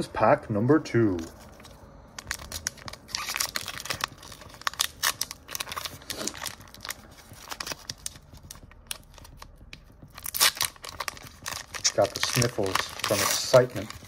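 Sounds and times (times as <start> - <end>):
foil wrapper tearing: 1.4 - 9.6, 10.2 - 14.0.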